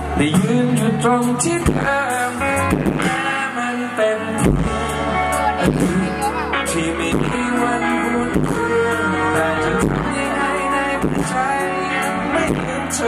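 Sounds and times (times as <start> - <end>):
bass guitar: 0.0 - 13.0
drums: 0.0 - 13.0
electric guitar: 0.0 - 13.0
man singing: 0.0 - 13.0.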